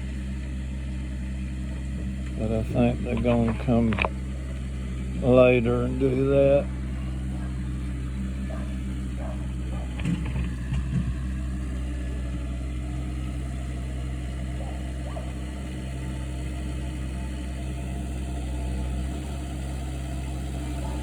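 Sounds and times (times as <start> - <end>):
machine engine idling: 0.0 - 21.0.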